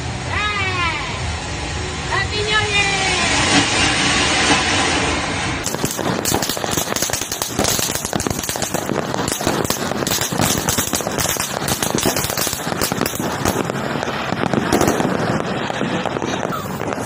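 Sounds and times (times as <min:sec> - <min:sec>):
fireworks crackling: 0:02.8 - 0:17.0.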